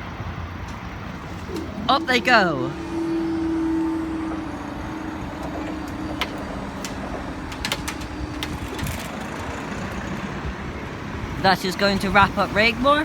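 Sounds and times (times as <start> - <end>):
road traffic noise: 0.0 - 13.0
barrier mechanism humming: 0.5 - 11.4.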